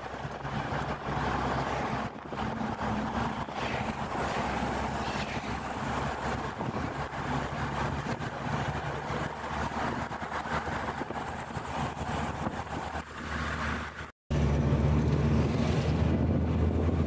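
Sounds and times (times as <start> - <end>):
tyre and wind noise: 0.0 - 17.0.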